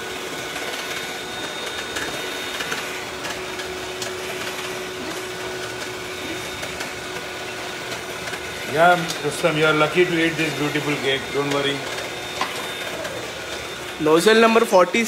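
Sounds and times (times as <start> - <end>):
steady whirring hiss: 0.0 - 15.0.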